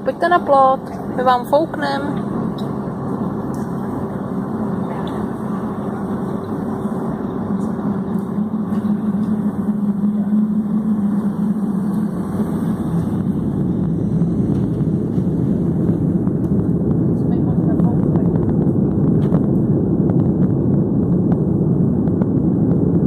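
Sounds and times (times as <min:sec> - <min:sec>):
jet engines rumbling in cabin: 0:00.0 - 0:23.0.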